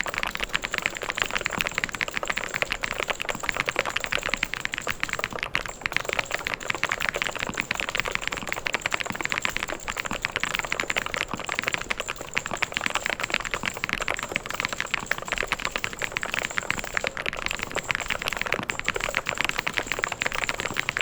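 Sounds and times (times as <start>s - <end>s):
typing on mechanical keyboard: 0.0s - 21.0s.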